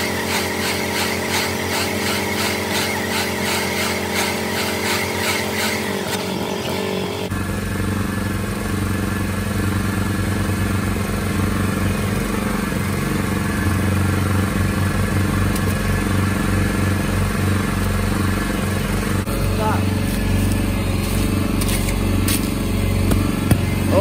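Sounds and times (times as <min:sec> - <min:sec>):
small gasoline engine running: 0:00.0 - 0:24.0.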